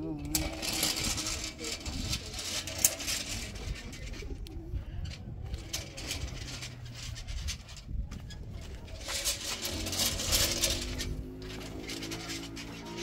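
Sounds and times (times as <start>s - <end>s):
stone roller crunching gravel: 0.0s - 4.4s, 5.4s - 13.0s.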